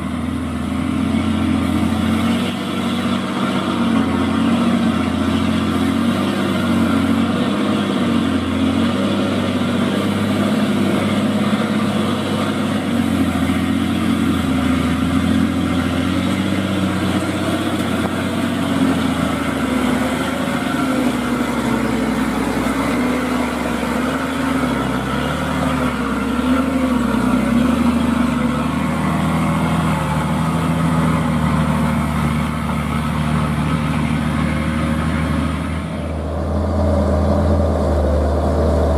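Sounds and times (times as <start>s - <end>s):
diesel truck engine under load: 0.0s - 38.9s.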